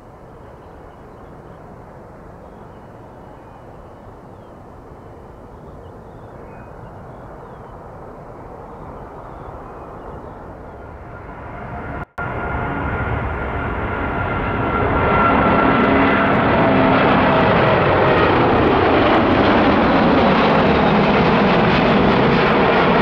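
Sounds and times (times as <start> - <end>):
jet engine rumble: 0.0 - 23.0.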